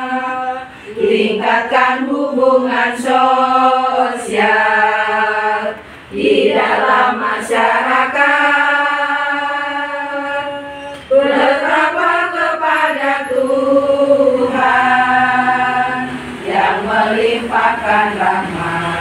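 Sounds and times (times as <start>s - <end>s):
women singing in unison: 0.0s - 19.0s.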